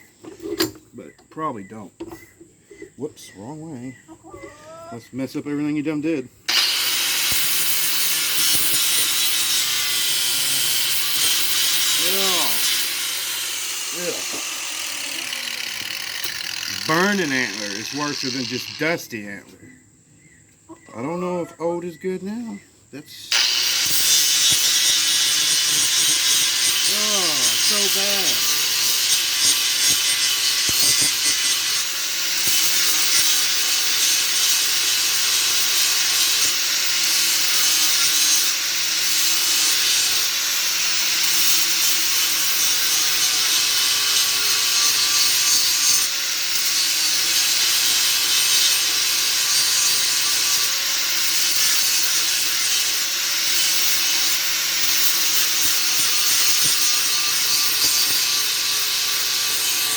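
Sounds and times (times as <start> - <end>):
grinder rasping against antler: 6.5 - 19.2, 23.3 - 59.9.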